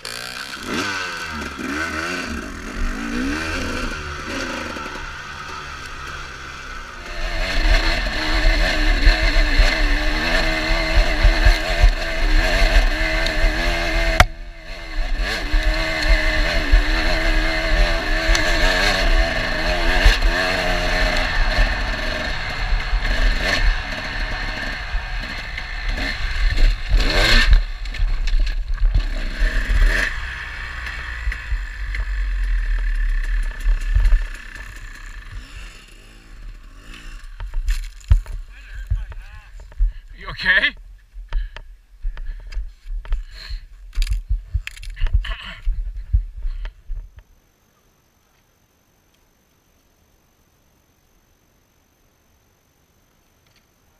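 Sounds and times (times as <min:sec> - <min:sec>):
dirt bike engine: 0:00.0 - 0:47.3.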